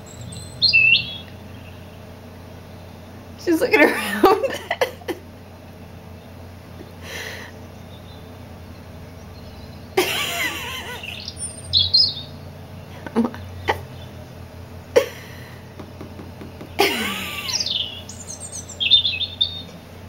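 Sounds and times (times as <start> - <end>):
bird song through speakers: 0.0 - 3.8, 6.0 - 10.0, 10.6 - 14.9, 15.9 - 19.8.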